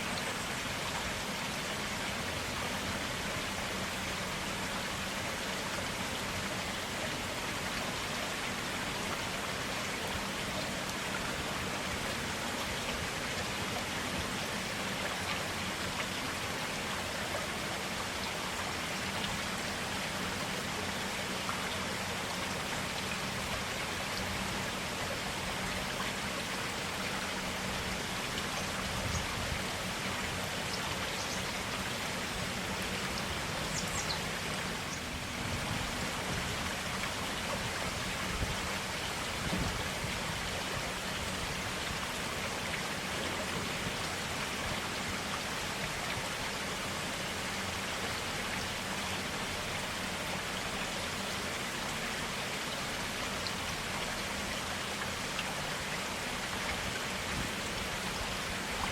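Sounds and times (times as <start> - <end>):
stream water running: 0.0 - 58.9.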